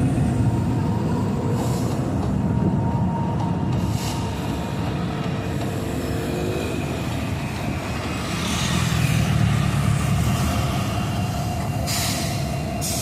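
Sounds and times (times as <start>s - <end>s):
train wagons rumbling past: 0.0s - 13.0s
wheel and rail noise: 0.0s - 13.0s.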